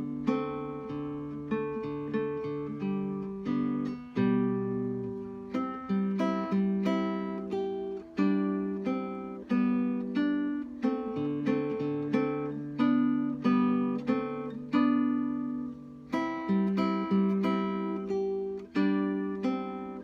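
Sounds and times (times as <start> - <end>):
acoustic guitar plucked melody: 0.0 - 20.0.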